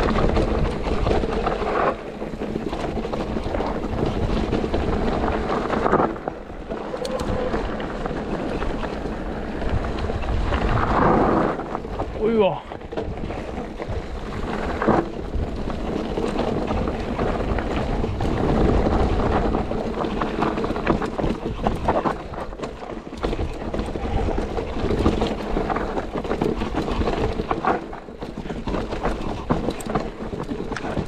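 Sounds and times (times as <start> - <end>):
bike clicks and knocks: 0.0 - 31.0
bike tyres rolling on dirt: 0.0 - 31.0
wind noise on microphone: 0.0 - 31.0.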